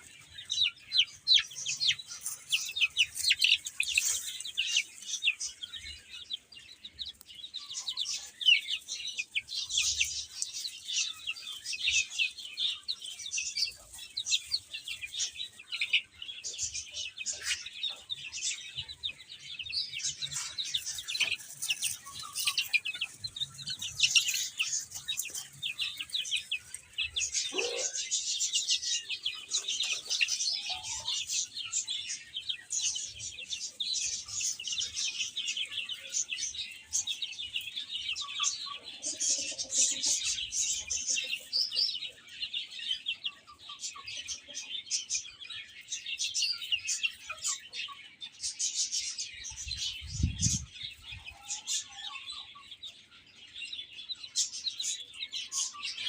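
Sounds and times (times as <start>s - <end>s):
baby chicks peeping: 0.0s - 56.0s.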